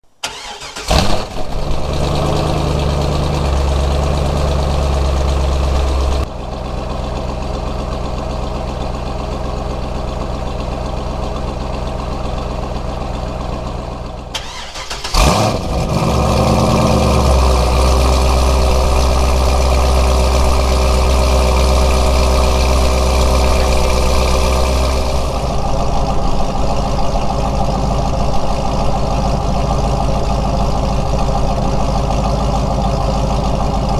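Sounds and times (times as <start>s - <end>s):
car engine starting and idling: 0.0s - 33.9s.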